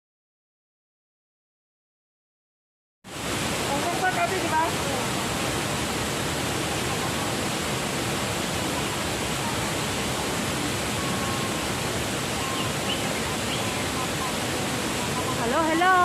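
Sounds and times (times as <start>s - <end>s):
steady rushing noise: 3.1s - 16.0s.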